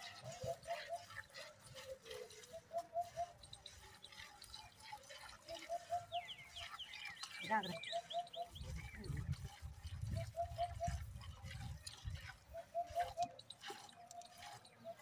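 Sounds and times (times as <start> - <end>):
milk squirting into steel pail: 1.0 - 7.4, 9.0 - 15.0.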